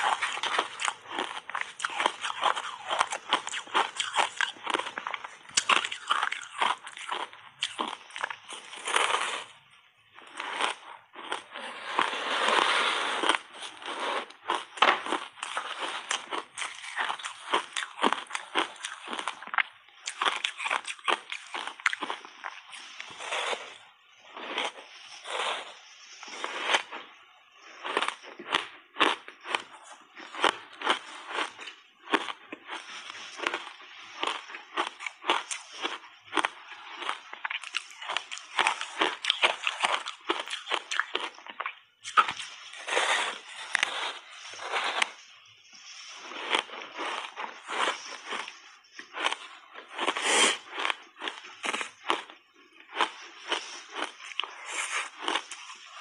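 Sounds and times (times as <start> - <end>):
ice crunching between teeth: 0.0 - 56.0.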